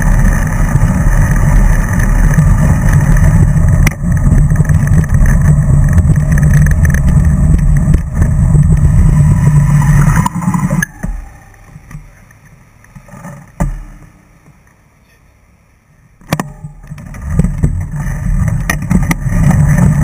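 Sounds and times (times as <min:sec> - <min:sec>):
bicycle rumbling through tunnel: 0:00.0 - 0:14.7, 0:16.4 - 0:20.0.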